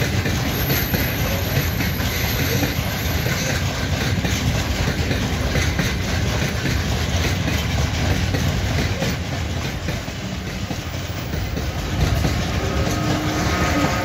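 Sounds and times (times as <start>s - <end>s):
electric locomotive whine: 0.0s - 14.0s
freight train rumbling past: 0.0s - 14.0s
wheel clatter over rail joints: 0.0s - 14.0s.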